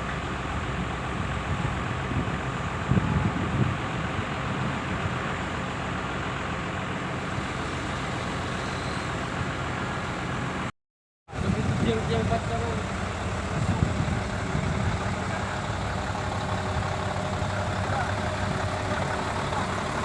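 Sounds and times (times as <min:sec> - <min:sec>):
heavy diesel engine running: 0:00.0 - 0:10.7, 0:11.3 - 0:20.0.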